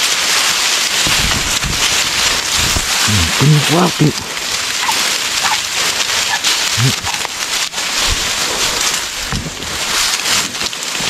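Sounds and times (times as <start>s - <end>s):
grass rustling against camera: 0.0s - 11.0s.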